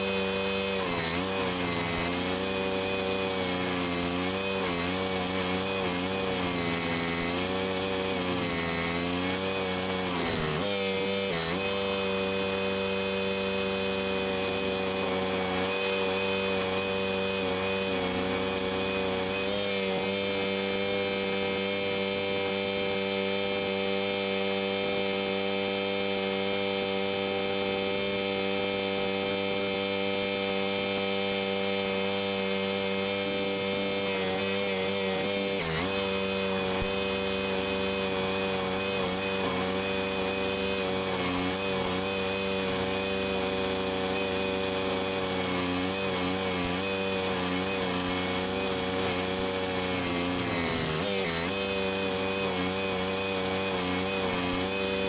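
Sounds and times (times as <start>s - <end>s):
stump grinder engine running: 0.0s - 55.0s.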